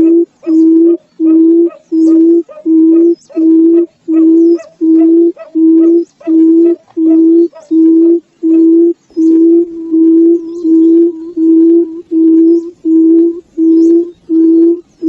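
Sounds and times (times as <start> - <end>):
bird low hooting call: 0.0 - 15.0.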